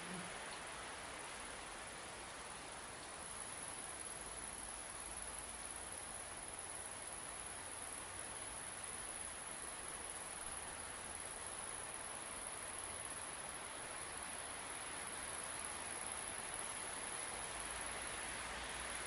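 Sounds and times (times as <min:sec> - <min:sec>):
high insect chorus: 0:00.0 - 0:19.0
wind hiss: 0:00.0 - 0:19.0.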